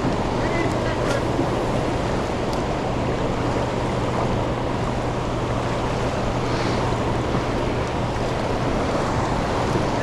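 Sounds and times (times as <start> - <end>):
fast-moving river water: 0.0 - 10.0
low steady hum: 0.0 - 10.0.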